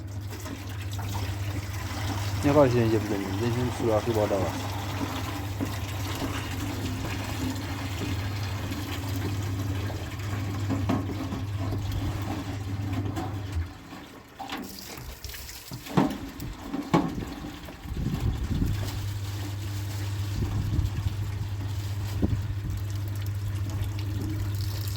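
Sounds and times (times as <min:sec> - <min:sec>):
washing machine motor hum: 0:00.0 - 0:14.4, 0:15.9 - 0:24.9
water churning in washing machine: 0:00.0 - 0:24.9.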